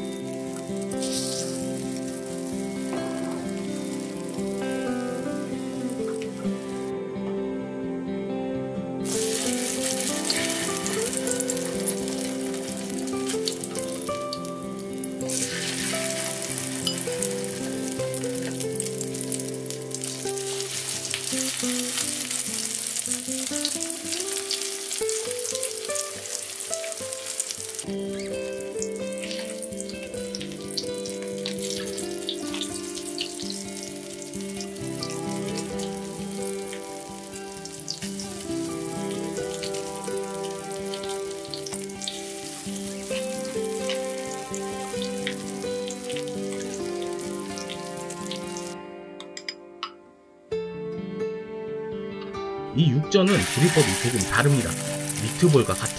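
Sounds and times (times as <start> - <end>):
skewers sizzling in hot oil: 0.0 - 6.9, 9.0 - 48.8, 53.3 - 55.9
background music with held notes: 0.0 - 55.9.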